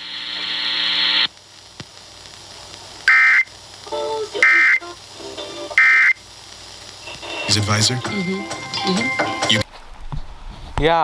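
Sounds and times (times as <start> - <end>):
buzzy data tone bursts: 0.0 - 9.7.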